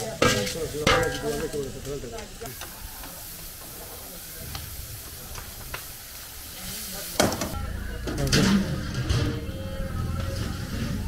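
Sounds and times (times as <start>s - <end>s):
food sizzling in hot oil: 0.0s - 10.8s
voices: 0.0s - 11.0s.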